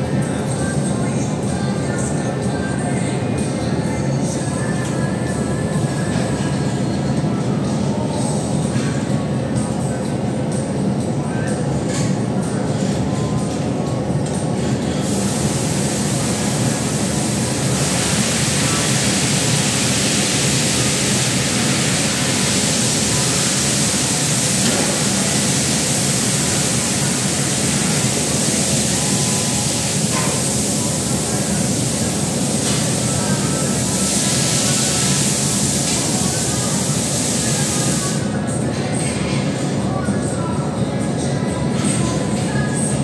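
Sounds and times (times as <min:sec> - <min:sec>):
furnace burners roaring: 0:00.0 - 0:43.0.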